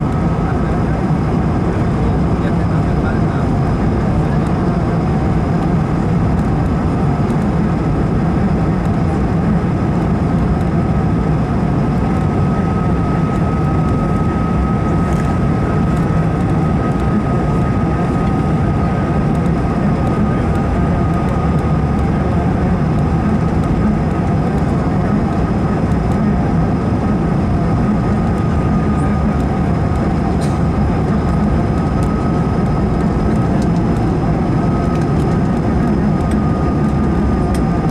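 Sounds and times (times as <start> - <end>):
aircraft cabin engine rumble: 0.0 - 37.9.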